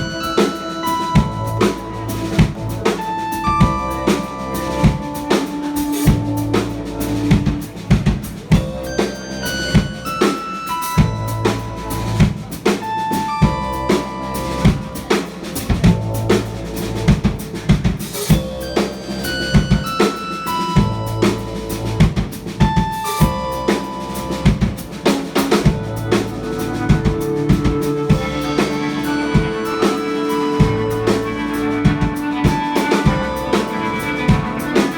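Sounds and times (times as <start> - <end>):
held bass notes: 0.0 - 10.2, 10.8 - 34.9
drum kit beat: 0.0 - 34.9
live band playing: 0.0 - 34.9.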